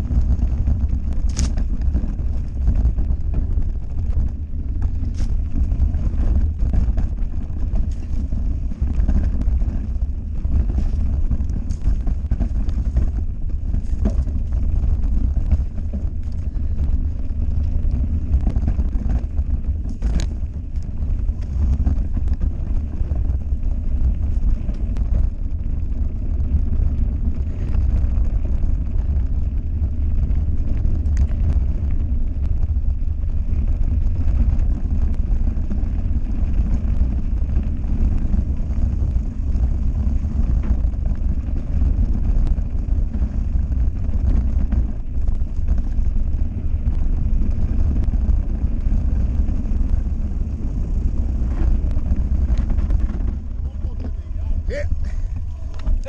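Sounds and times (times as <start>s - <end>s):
bike knocks and rattles: 0.0s - 56.0s
tyres rumbling on dirt: 0.0s - 56.0s
wind buffeting microphone: 0.0s - 56.0s.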